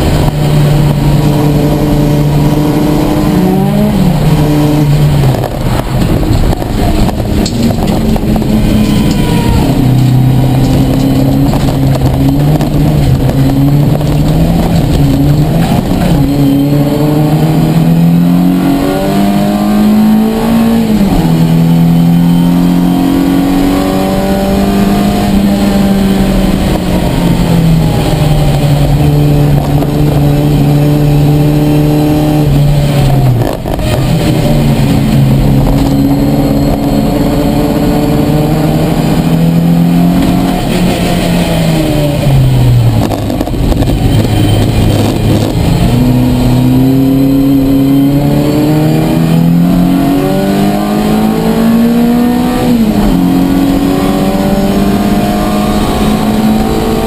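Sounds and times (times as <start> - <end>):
race car engine revving through gears: 0.0 - 57.0.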